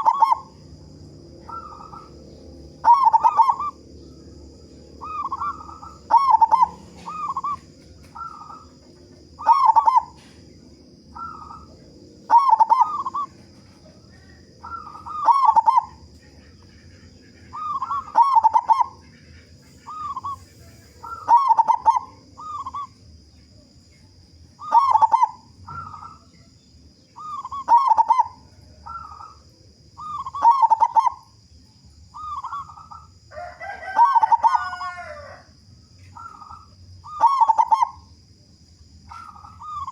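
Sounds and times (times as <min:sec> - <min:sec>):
dove cooing: 0:00.0 - 0:23.0, 0:24.6 - 0:26.5, 0:27.2 - 0:31.4, 0:32.1 - 0:38.2, 0:39.0 - 0:39.9
noisy bird call: 0:00.0 - 0:39.9.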